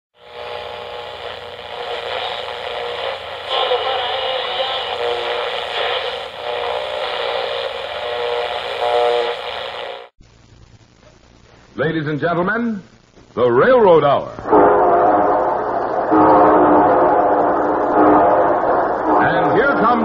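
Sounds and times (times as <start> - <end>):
faint steady tones: 0.2 - 11.7, 14.4 - 20.0
steady noise: 0.2 - 20.0.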